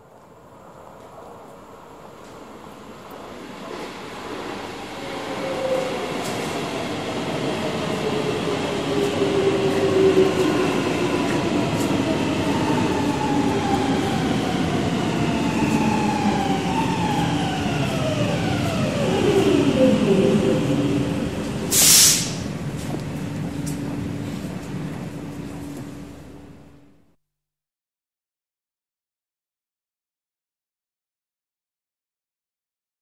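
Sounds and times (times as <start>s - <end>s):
metro train running noise: 0.0s - 27.0s.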